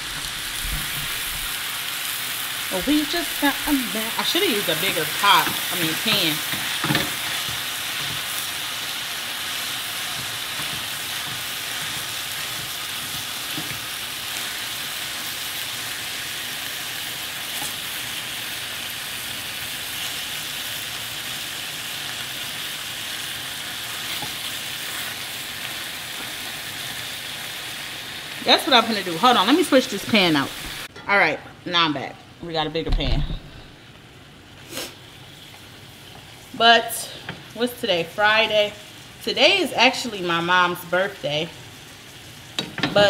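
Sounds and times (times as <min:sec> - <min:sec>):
meat sizzling in a frying pan: 0:00.0 - 0:30.9, 0:33.9 - 0:43.0.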